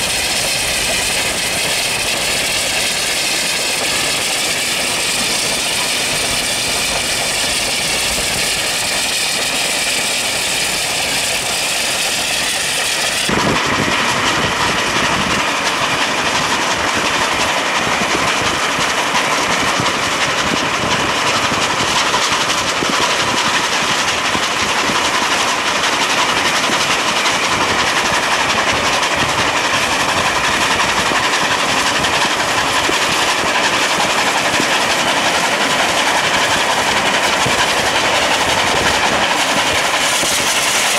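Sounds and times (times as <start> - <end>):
steam locomotive exhaust: 0.0 - 40.9
train wheels on rails: 0.0 - 40.9.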